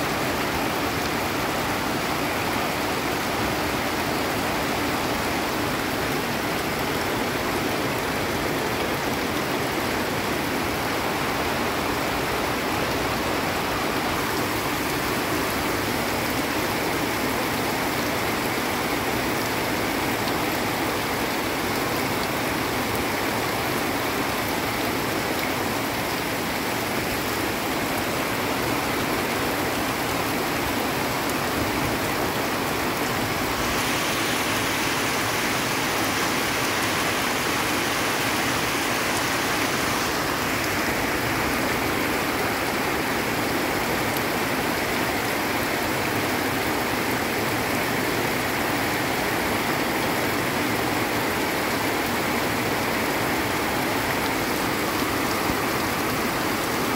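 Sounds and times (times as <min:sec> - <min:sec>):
runoff water rushing: 0:00.0 - 0:56.9
torrential rain on foliage: 0:00.0 - 0:56.9.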